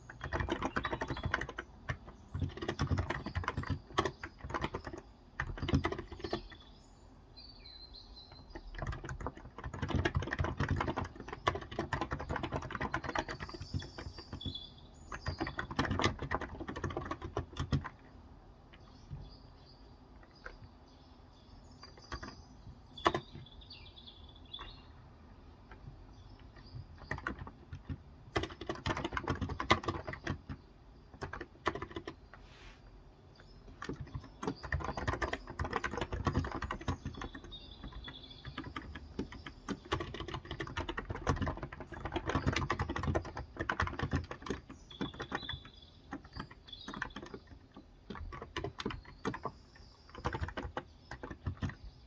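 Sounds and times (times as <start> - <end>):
keyboard typing: 0.0 - 6.7, 8.3 - 19.4, 21.8 - 23.5, 24.6 - 32.5, 33.4 - 52.0
faint bird chirps: 0.0 - 17.3, 18.8 - 27.6, 31.8 - 52.0.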